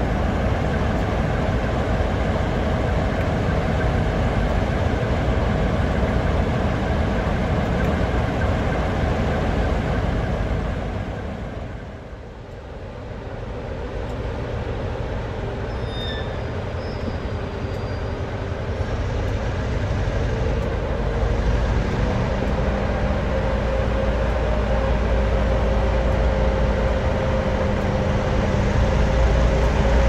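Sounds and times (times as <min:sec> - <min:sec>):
diesel locomotive engine rumbling: 0:00.0 - 0:30.0.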